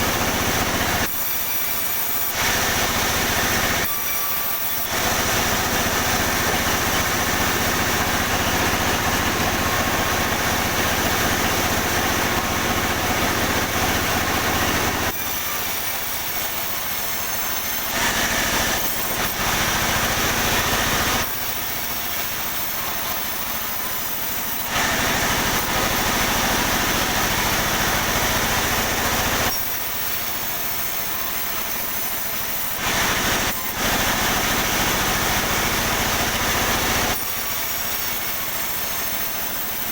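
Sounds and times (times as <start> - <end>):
motor humming: 0.0 - 39.9
saw cutting timber: 0.0 - 39.9.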